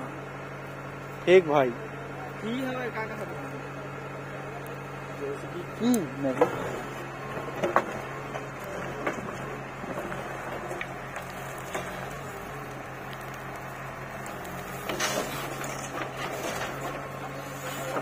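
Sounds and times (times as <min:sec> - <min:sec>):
diesel engine running under load: 0:00.0 - 0:18.0.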